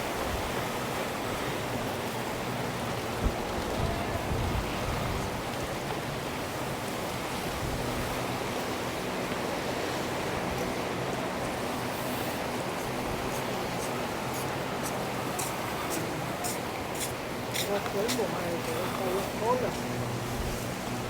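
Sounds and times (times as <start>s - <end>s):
ocean surf: 0.0s - 21.0s.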